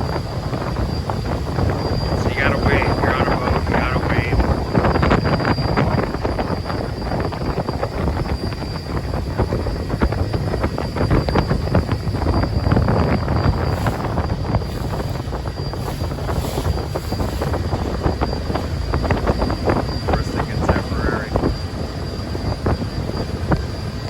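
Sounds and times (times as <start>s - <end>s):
boat engine droning: 0.0s - 24.0s
wind buffeting microphone: 0.0s - 24.0s.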